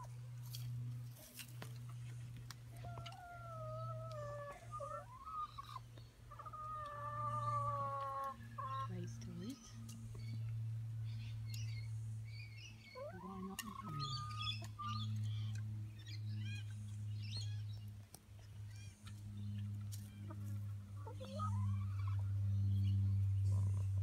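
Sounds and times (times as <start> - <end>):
chickens chirping and calling: 0.0 - 24.0
steady low hum: 0.0 - 24.0.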